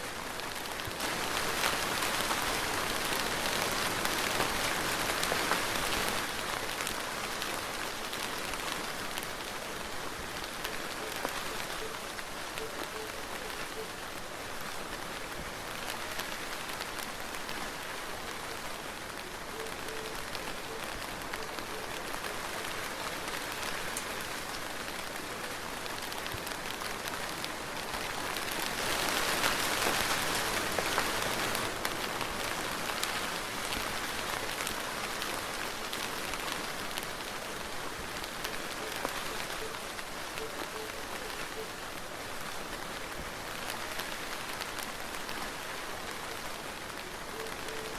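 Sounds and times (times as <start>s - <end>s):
soft rain pattering: 0.0s - 47.9s.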